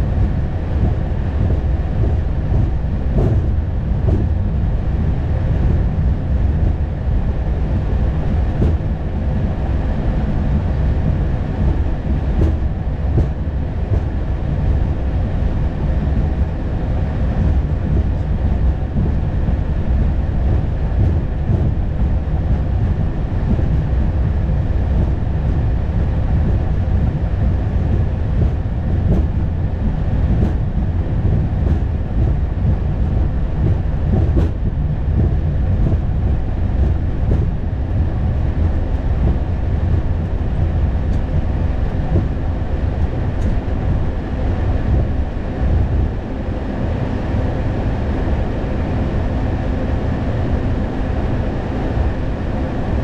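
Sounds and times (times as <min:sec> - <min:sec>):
aircraft engines rumbling: 0:00.0 - 0:53.0.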